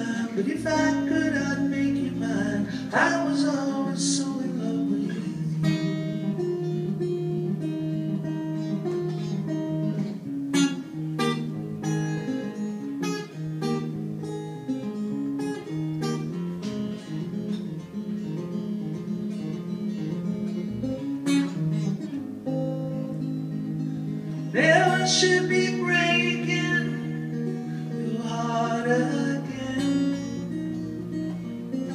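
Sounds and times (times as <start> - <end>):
acoustic guitar strumming: 0.0 - 31.9.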